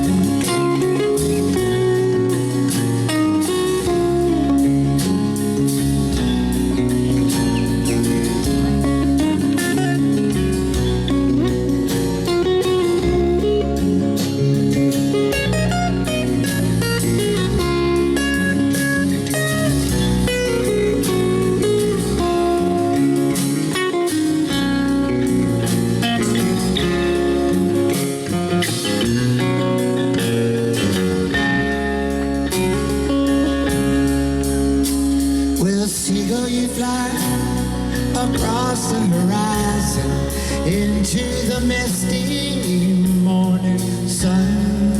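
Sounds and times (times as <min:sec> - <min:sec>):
blues guitar music: 0:00.0 - 0:44.9.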